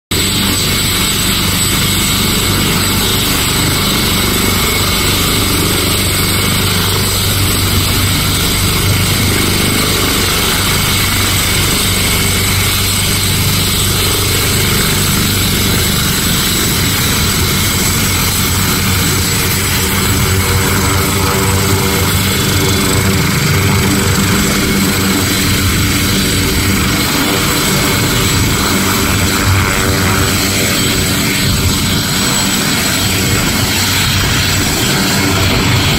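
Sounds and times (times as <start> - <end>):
helicopter running on ground: 0.1 - 35.9.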